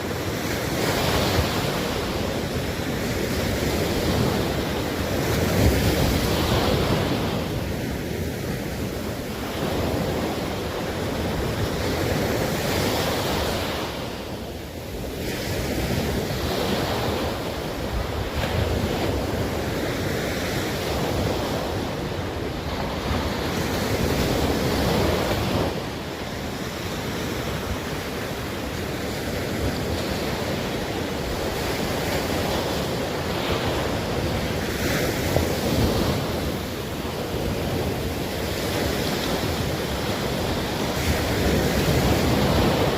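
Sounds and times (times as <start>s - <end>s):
surf washing in shallows: 0.0s - 42.9s
wind buffeting microphone: 0.0s - 42.9s.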